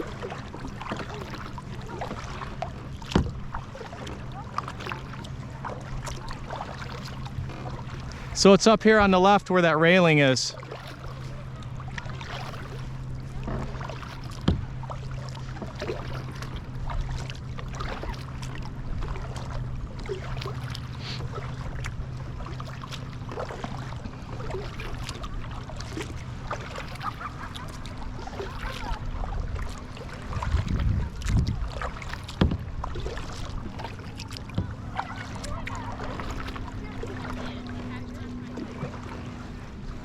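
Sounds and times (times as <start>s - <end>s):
low hum: 0.0s - 40.0s
paddle splashing water: 0.0s - 40.0s.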